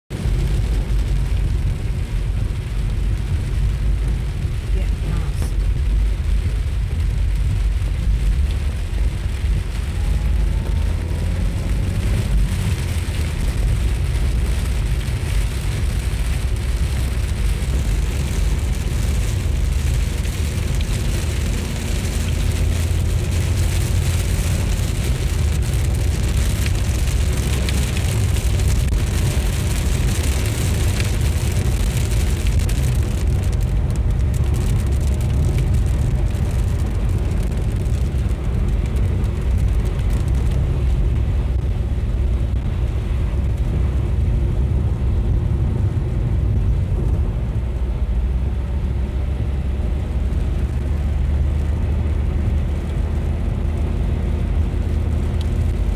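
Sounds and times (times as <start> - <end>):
car engine and tyre rumble: 0.0 - 55.9
rain hitting windscreen: 0.1 - 55.9.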